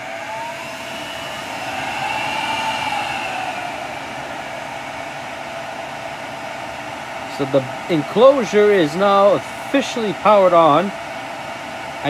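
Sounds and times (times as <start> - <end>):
cooling fans spinning up: 0.0 - 12.0.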